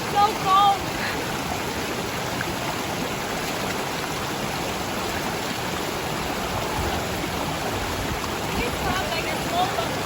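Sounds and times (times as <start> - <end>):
waterfall and river water rushing: 0.0 - 10.0.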